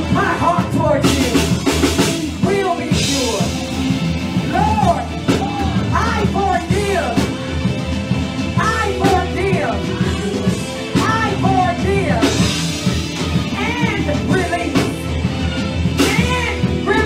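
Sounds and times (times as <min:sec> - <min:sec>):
drums and cymbal hits: 0:00.0 - 0:17.0
keyboard: 0:00.0 - 0:17.0.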